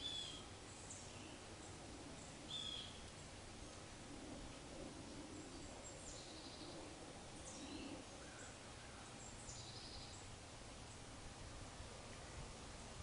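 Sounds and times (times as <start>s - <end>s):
small birds chirping: 0.0s - 11.2s
steady background hiss: 0.0s - 13.0s.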